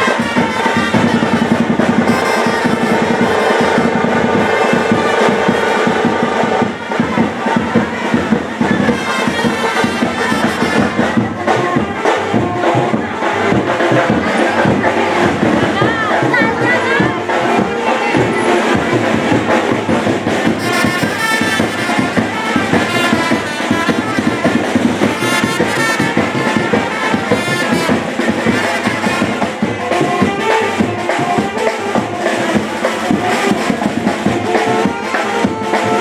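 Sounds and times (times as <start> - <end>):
brass and drums music: 0.0 - 36.0.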